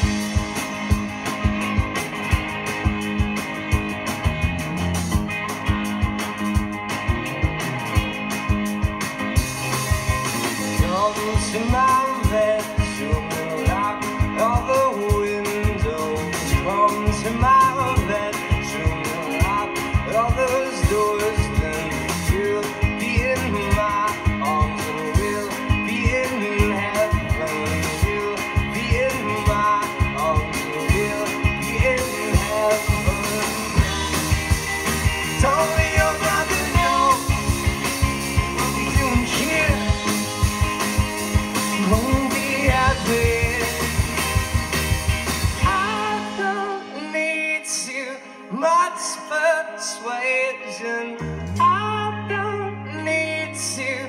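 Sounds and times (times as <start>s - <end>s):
drum kit: 0.0s - 48.1s
bass guitar: 0.0s - 54.0s
electric guitars: 0.0s - 54.0s.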